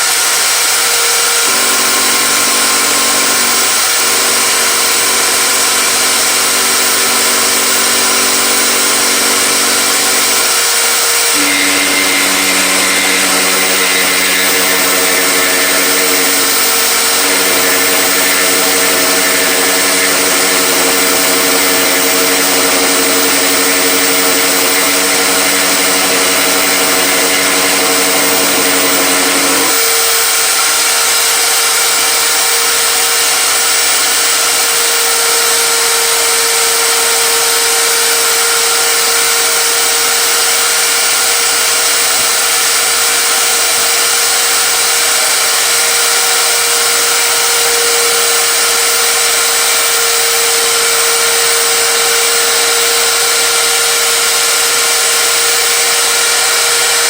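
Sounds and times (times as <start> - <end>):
power tool whining: 0.0 - 57.0.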